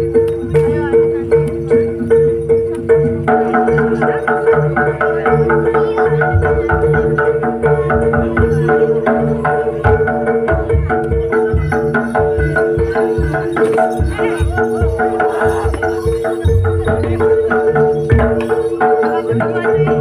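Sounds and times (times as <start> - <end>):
deep drum beats: 0.0 - 20.0
hand drum patterns: 0.0 - 20.0
metallophone notes: 0.0 - 20.0.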